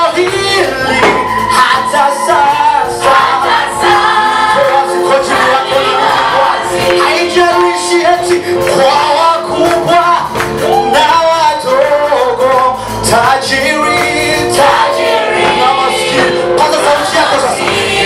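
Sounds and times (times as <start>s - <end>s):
voices singing: 0.0s - 10.1s, 13.0s - 18.0s
band playing: 0.0s - 18.0s
drum beat: 0.0s - 18.0s.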